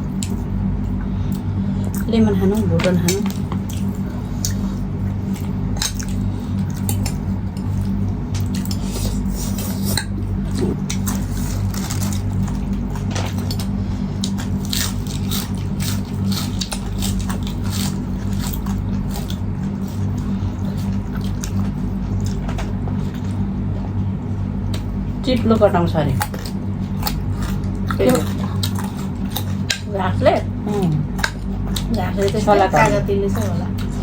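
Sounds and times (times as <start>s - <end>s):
chewing food: 0.0s - 24.0s, 26.1s - 34.0s
steady low hum: 0.0s - 34.0s.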